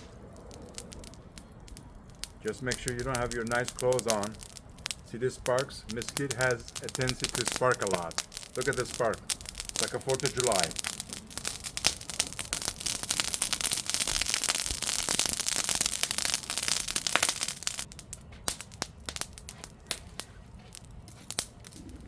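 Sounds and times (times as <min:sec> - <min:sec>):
charcoal crackling and popping: 0:00.0 - 0:22.0.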